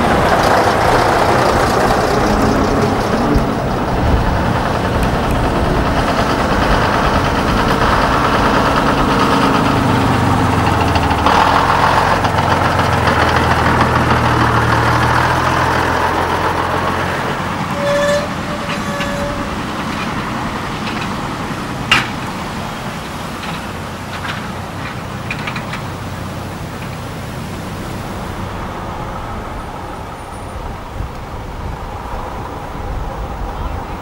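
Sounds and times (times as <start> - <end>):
lorry diesel engine droning: 0.0 - 34.0.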